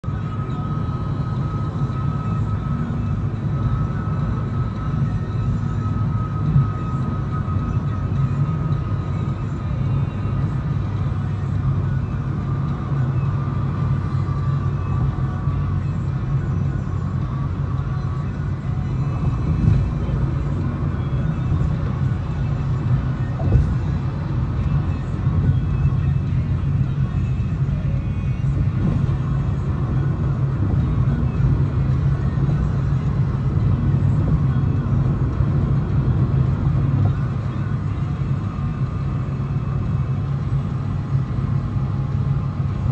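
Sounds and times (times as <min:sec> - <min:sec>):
car engine rumble and road noise: 0:00.0 - 0:42.9.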